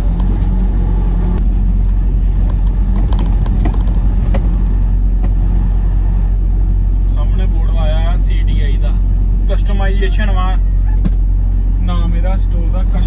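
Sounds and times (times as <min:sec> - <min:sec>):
diesel truck engine drone: 0:00.0 - 0:13.0.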